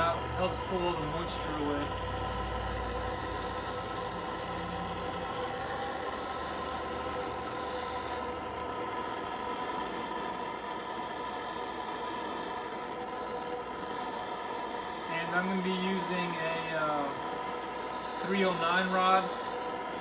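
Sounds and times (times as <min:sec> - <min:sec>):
propane torch burning: 0:00.0 - 0:20.0
steady humming tone: 0:00.0 - 0:20.0.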